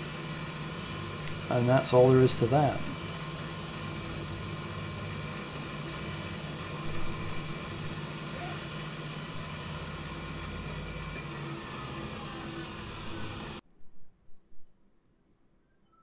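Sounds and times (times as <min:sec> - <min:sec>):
machine motors humming: 0:00.0 - 0:13.6.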